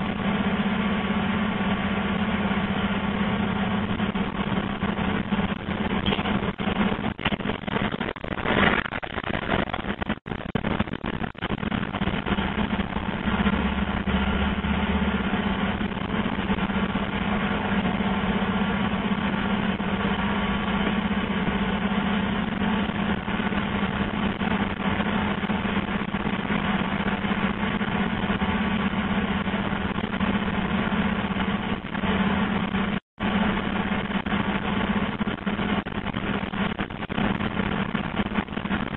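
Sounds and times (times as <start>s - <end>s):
cable blowing machine humming: 0.0s - 38.9s
rushing air: 0.0s - 38.9s.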